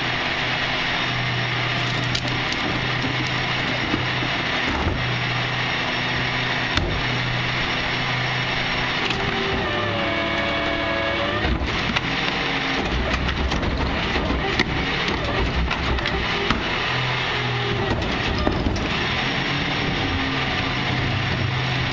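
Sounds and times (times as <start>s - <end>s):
diesel truck engine running: 0.0s - 21.9s
rising and falling whine: 0.0s - 21.9s.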